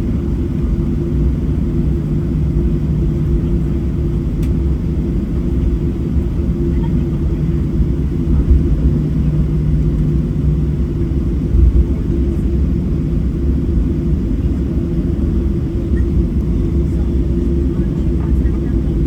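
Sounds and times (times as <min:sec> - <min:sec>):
aircraft cabin low rumble: 0:00.0 - 0:19.0.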